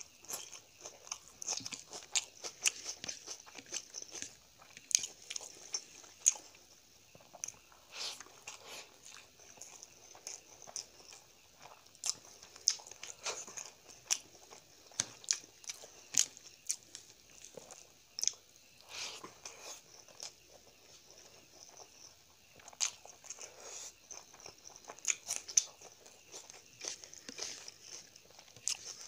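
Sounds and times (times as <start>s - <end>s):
wet chewing and lip smacking: 0.2s - 29.0s.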